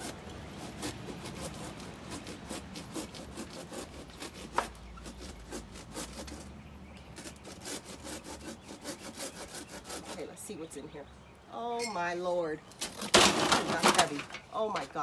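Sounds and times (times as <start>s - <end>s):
saw cutting tree trunk: 0.0s - 10.6s, 12.8s - 14.2s.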